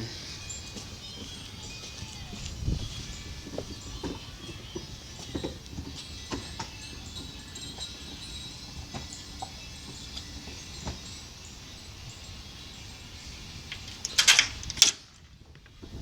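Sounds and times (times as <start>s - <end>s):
gusty wind: 0.0s - 5.8s, 8.1s - 16.0s.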